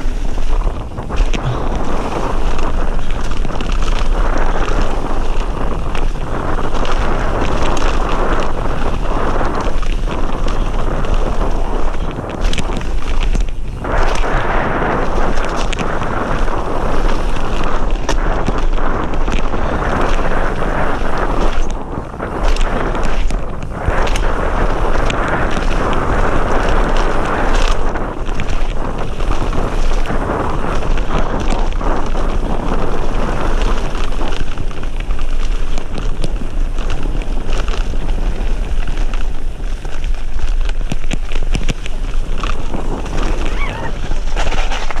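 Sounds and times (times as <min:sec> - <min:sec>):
bike rattling over bumps: 0:00.0 - 0:45.0
tyres rolling on wet gravel: 0:00.0 - 0:45.0
wind rushing over microphone: 0:00.0 - 0:45.0.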